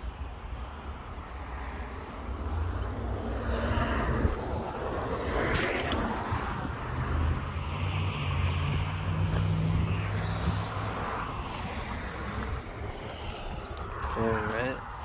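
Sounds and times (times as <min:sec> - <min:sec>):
vehicle engine hum: 0:00.0 - 0:15.0
vehicle rushing past: 0:01.5 - 0:14.9.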